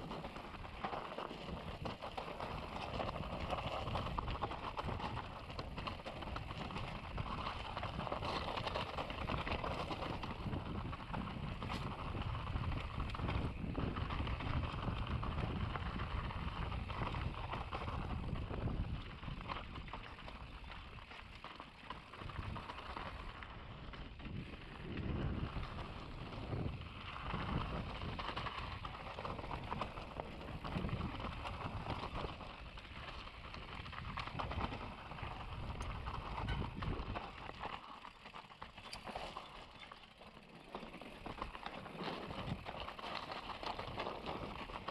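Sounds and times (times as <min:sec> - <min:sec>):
bike tyres rattling over stones: 0:00.0 - 0:44.9.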